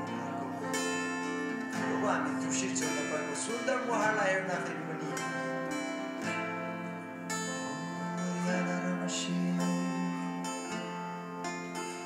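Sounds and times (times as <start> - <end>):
acoustic guitars strumming: 0.0 - 12.0
keyboard chords: 0.0 - 12.0.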